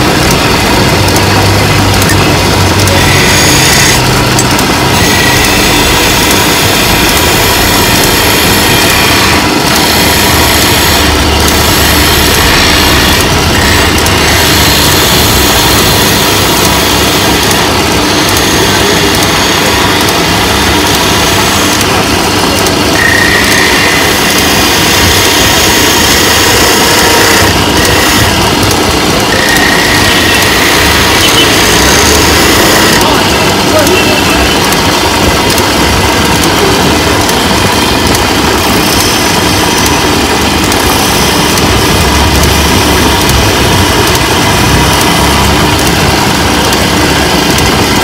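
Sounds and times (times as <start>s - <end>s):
chisel scraping spinning wood: 0.0s - 48.0s
wood lathe motor running: 0.0s - 48.0s.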